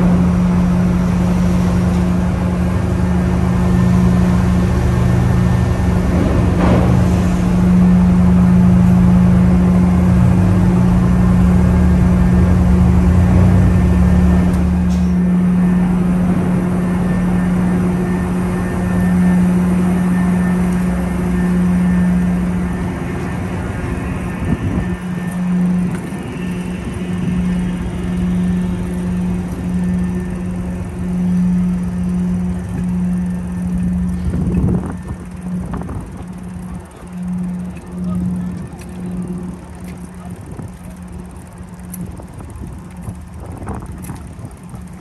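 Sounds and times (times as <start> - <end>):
ship engines droning: 0.0 - 45.0
vehicles rumbling over ramp: 0.0 - 45.0.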